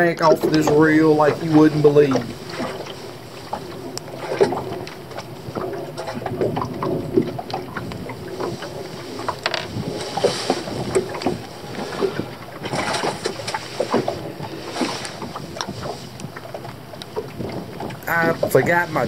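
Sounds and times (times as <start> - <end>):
water lapping against boat hull: 0.0 - 19.0.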